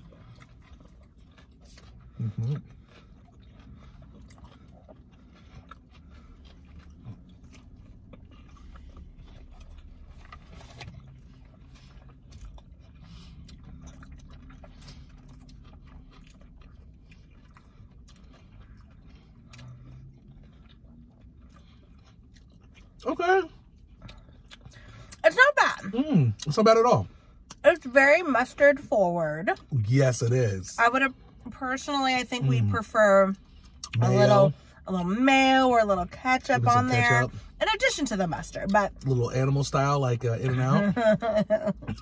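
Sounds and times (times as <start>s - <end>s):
low steady car hum: 0.0s - 42.0s
people chewing food: 0.0s - 42.0s.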